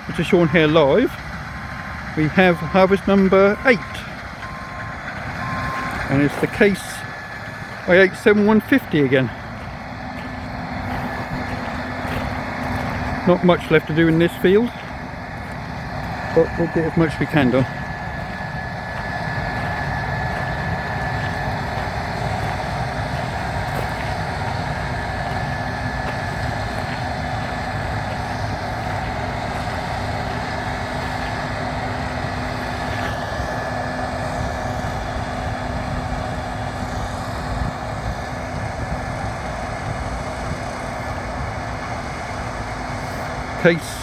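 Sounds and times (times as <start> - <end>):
combine harvester drone: 0.0 - 44.0
faint steady whine: 0.0 - 44.0.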